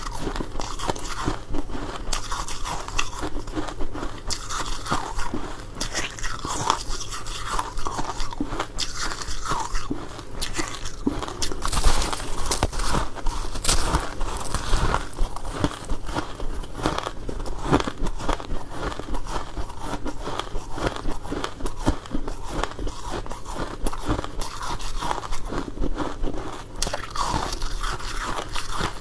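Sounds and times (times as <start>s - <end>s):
chewing crunchy frost: 0.0s - 29.0s.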